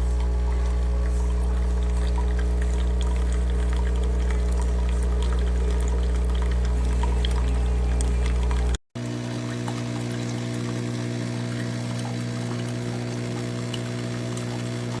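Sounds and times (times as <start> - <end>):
coffee maker pump humming: 0.0 - 15.0
coffee pouring into cup: 0.1 - 15.0.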